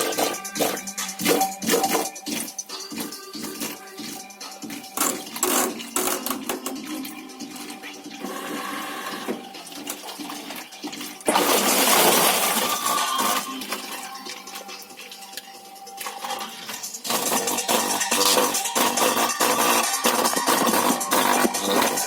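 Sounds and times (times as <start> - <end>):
water sloshing in washing machine: 0.0 - 22.0.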